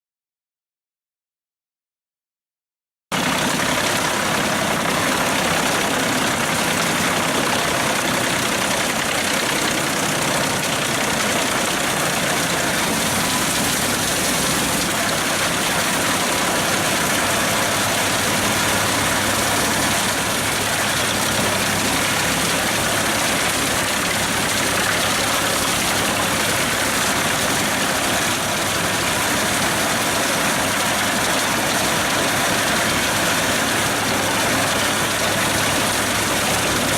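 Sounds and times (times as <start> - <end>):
tractor running: 3.1 - 36.9
drum wood chipper running: 3.2 - 36.9.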